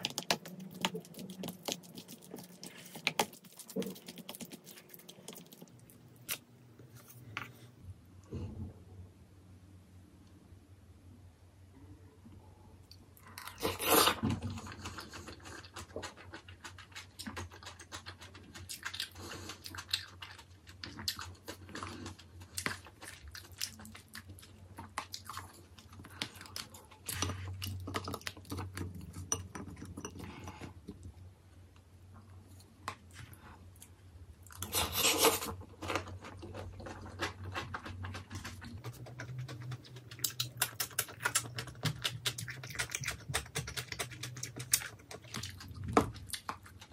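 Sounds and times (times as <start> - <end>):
chewing and crunching food: 0.0 - 7.6, 12.8 - 46.9.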